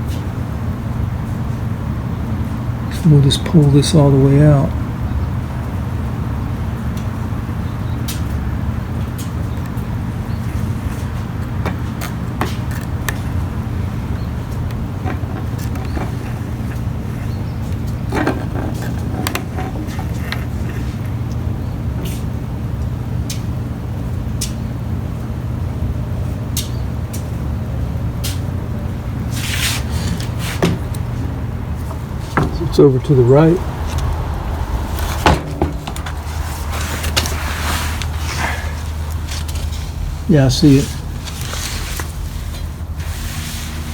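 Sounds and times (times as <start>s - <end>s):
low mechanical rumble: 0.0s - 43.9s.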